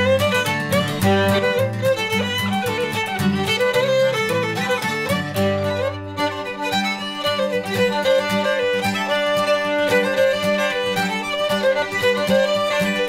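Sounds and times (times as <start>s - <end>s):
fiddle playing a reel: 0.0s - 13.0s
strummed acoustic guitar: 0.0s - 13.0s.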